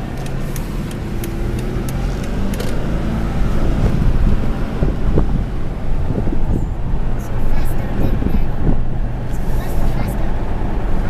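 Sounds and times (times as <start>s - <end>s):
pickup engine hum and road noise: 0.0s - 11.0s.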